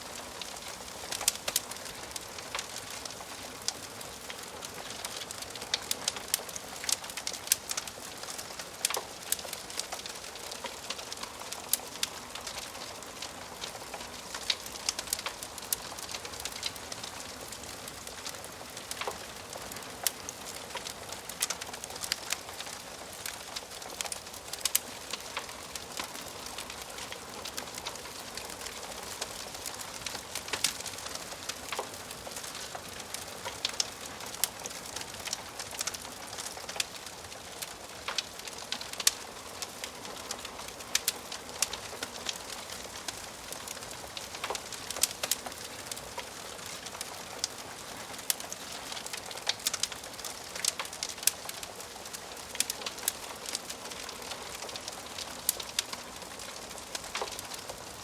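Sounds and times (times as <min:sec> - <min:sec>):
wood fire popping and snapping: 0:00.0 - 0:58.0.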